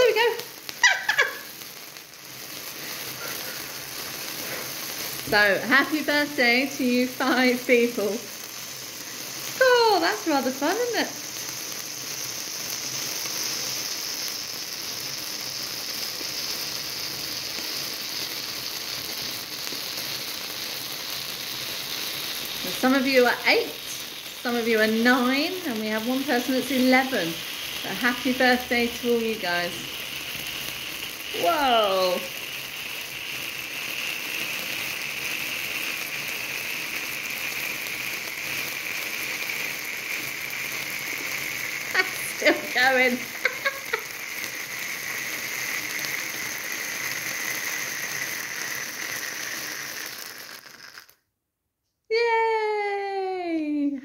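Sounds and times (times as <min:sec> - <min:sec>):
sparkler candle hissing: 0:00.0 - 0:51.3, 0:52.1 - 0:54.0.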